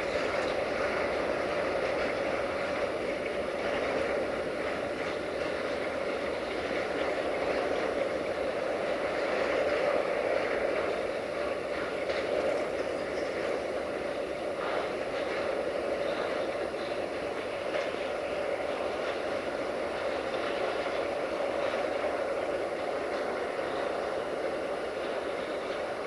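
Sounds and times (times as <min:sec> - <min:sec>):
diesel locomotive engine: 0:00.0 - 0:26.0
train wheels rolling on rails: 0:00.0 - 0:26.0.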